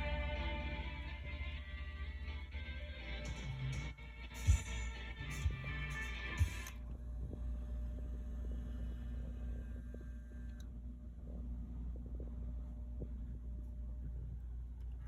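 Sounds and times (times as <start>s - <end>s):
record music: 0.0s - 15.0s
turntable low hum: 0.0s - 15.0s.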